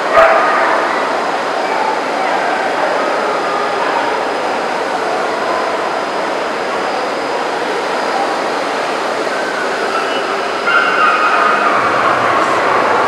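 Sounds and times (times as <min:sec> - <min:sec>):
echoing crowd din: 0:00.0 - 0:13.0.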